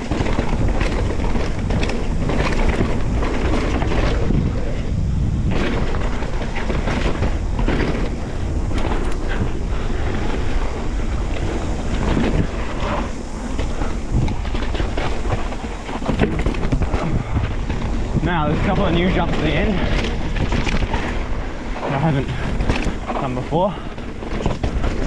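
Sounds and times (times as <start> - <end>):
bike knocks and rattles: 0.0 - 25.0
bike tyre noise: 0.0 - 25.0
wind rushing over microphone: 0.0 - 25.0.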